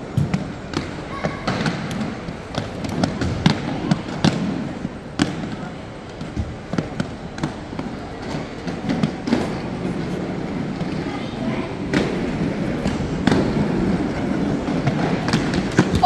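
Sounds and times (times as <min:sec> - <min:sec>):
skate wheels rumbling: 0:00.0 - 0:16.0.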